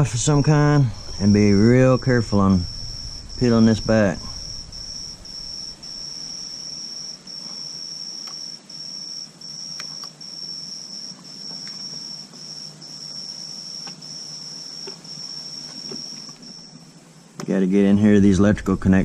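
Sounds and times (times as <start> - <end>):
cricket trilling: 0.0 - 17.5.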